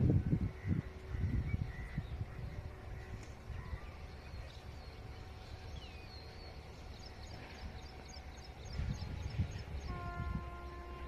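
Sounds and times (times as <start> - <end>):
low outdoor rumble: 0.0 - 11.0
small birds chirping: 0.4 - 11.0.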